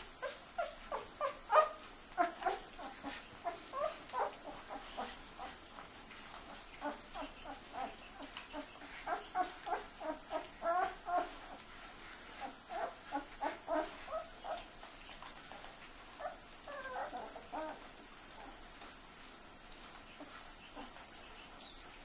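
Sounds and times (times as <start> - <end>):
puppies squeaking and whimpering: 0.0 - 18.9, 19.7 - 22.0
puppy whining: 0.0 - 22.0.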